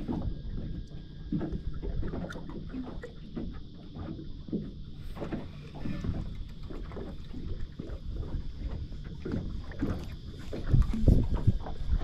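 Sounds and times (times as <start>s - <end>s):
small waves lapping against hull: 0.0s - 12.0s
wind rumbling on microphone: 0.0s - 12.0s.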